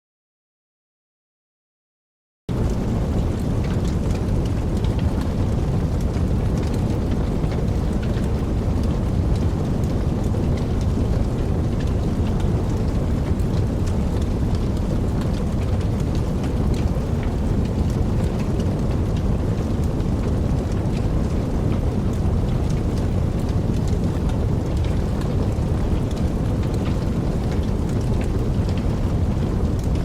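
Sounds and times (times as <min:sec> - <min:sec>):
fire crackling and roaring: 0:02.5 - 0:30.0.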